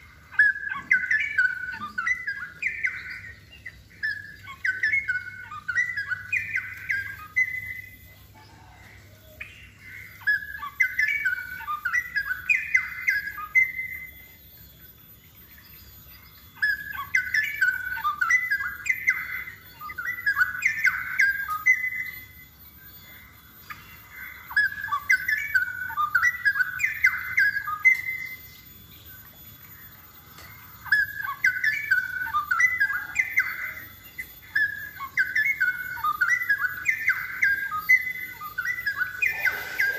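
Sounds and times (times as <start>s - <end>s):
bird singing bubbling warble: 0.0s - 39.9s.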